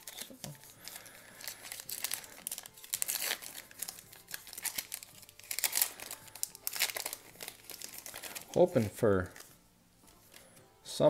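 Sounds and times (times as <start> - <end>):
wrapper crinkling and tearing: 0.0 - 9.5.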